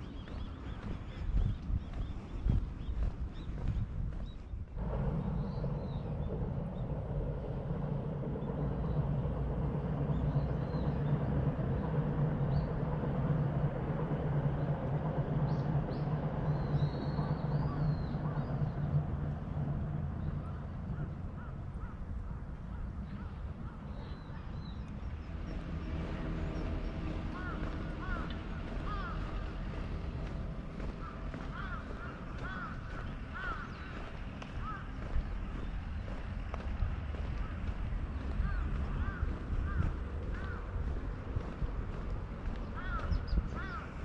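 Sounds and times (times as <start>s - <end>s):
distant road traffic rumble: 0.0s - 44.0s.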